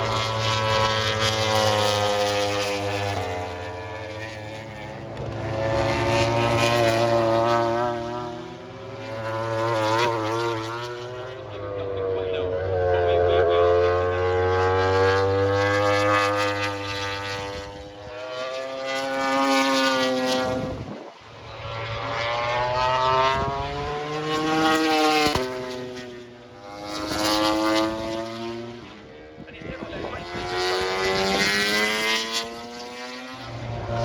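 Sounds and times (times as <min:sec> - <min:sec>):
racing motorcycles passing: 0:00.0 - 0:34.0.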